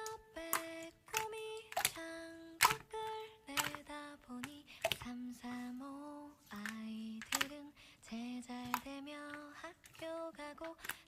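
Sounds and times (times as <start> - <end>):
person singing slow melody: 0.0 - 11.0.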